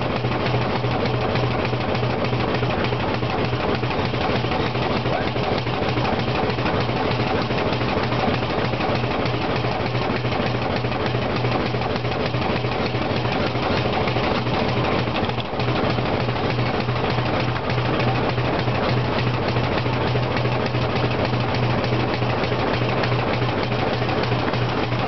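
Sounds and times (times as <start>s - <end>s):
clatter of locomotive rods and wheels: 0.0s - 25.0s.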